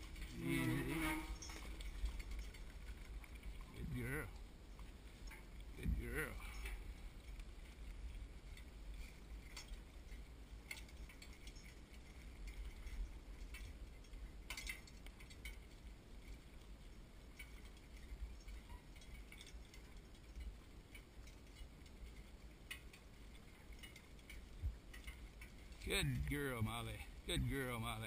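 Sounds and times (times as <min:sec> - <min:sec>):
cart rolling on grass: 0:00.0 - 0:28.0
faint metallic clinks: 0:00.0 - 0:28.0.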